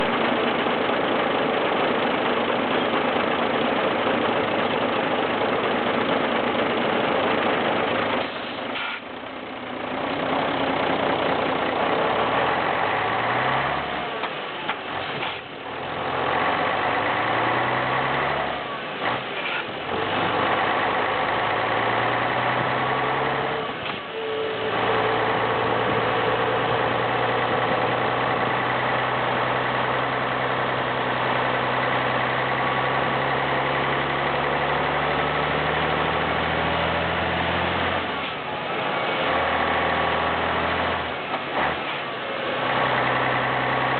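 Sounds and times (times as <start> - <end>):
truck diesel engine running: 0.0 - 43.9.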